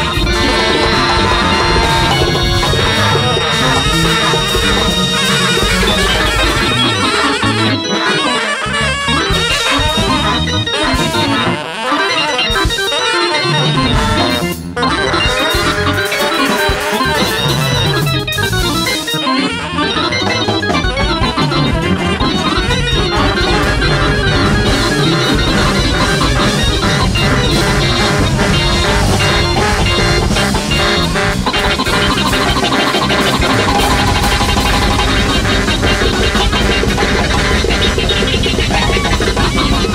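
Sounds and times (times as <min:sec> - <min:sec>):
jazz big band playing: 0:00.0 - 0:39.9
keyboard organ sound: 0:00.0 - 0:39.9.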